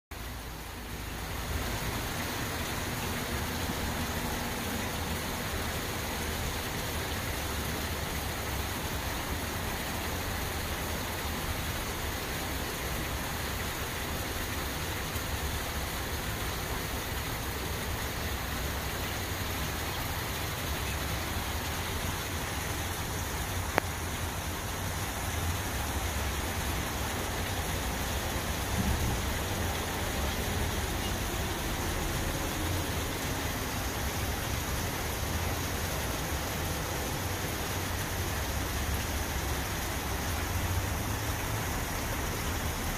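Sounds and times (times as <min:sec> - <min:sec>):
water rushing at dam: 0:00.2 - 0:42.9.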